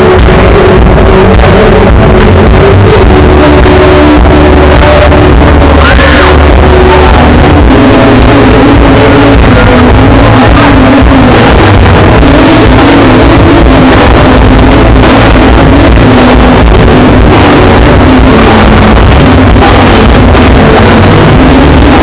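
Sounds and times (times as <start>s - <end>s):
live band playing distorted: 0.0s - 22.0s.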